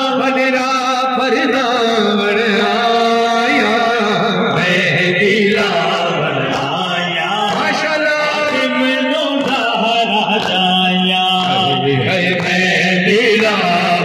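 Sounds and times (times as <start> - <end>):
men chanting through microphones: 0.0 - 14.0.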